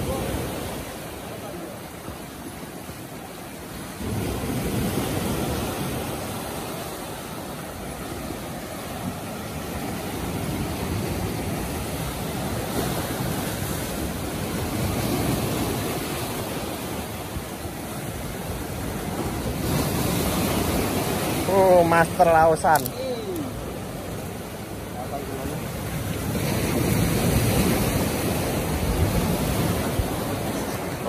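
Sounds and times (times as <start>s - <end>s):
surf washing on shore: 0.0s - 31.0s.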